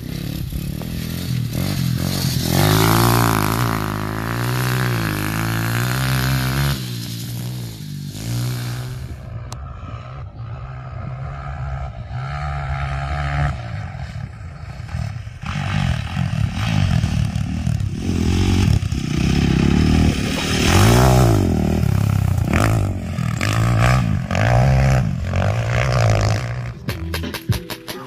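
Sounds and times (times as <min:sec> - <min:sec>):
dirt bike engine revving: 0:00.0 - 0:27.5.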